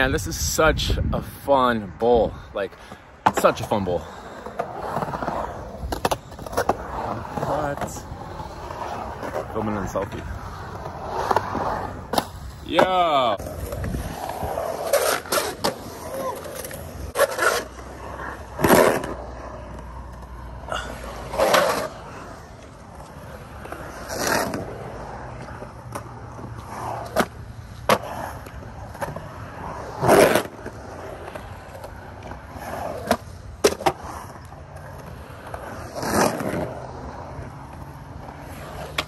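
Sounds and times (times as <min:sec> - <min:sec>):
skateboard wheels rolling on concrete: 0:00.0 - 0:39.0
skateboard clacks and scrapes: 0:02.8 - 0:39.0.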